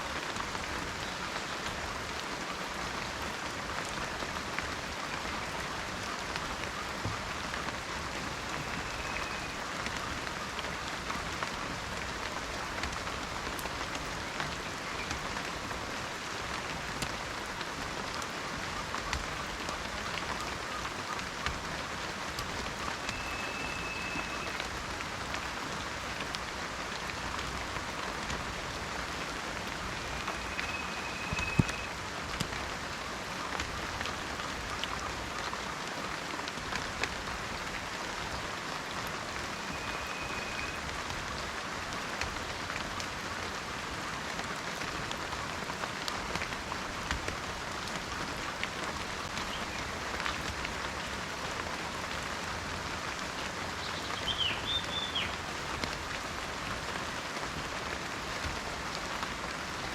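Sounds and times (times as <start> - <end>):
rain falling in forest: 0.0 - 59.9
raindrops ticking: 0.1 - 59.7.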